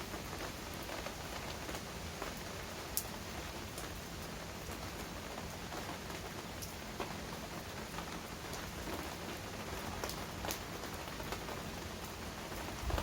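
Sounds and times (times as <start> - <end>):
heavy rain: 0.0 - 13.0
raindrop ticks and splashes: 0.0 - 13.0.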